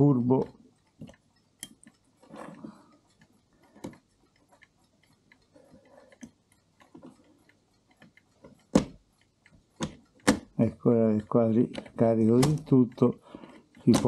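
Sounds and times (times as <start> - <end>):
clock ratchet clicks while winding: 0.0 - 14.0.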